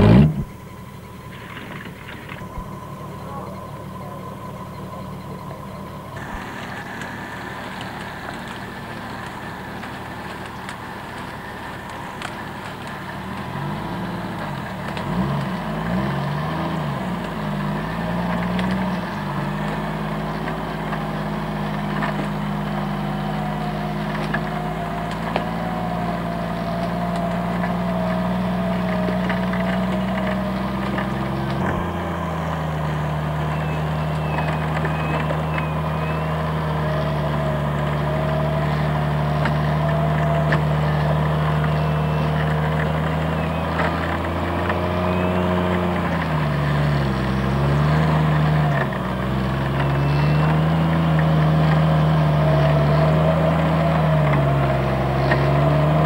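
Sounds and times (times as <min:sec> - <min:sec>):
jeep engine running under load: 0:00.0 - 0:56.0.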